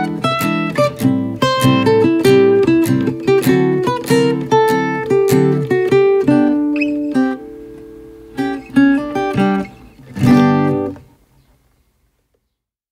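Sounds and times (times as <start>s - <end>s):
acoustic guitar music: 0.0s - 11.7s.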